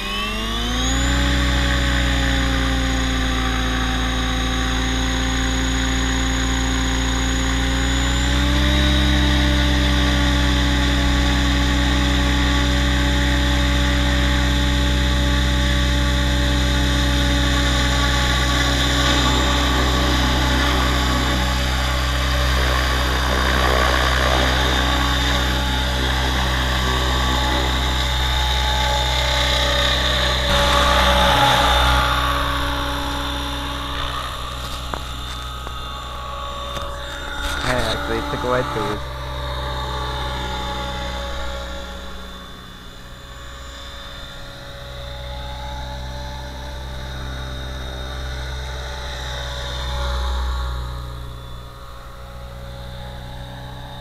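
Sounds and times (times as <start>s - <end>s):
electric rc helicopter whine: 0.0s - 54.0s.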